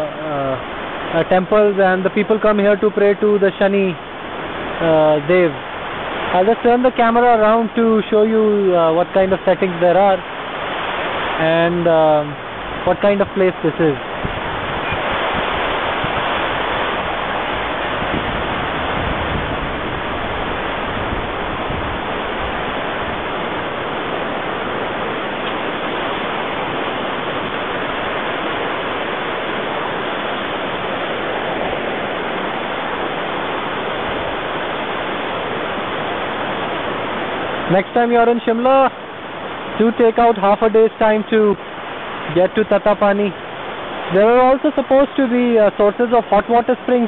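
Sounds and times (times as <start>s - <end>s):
river gushing over rocks: 0.0s - 47.0s.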